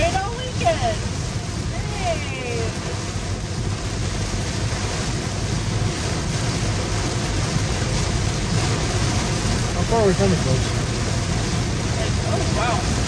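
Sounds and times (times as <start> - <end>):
heavy rain on a car: 0.0 - 13.0
low road rumble: 0.0 - 13.0
wet-road tyre noise: 0.0 - 13.0.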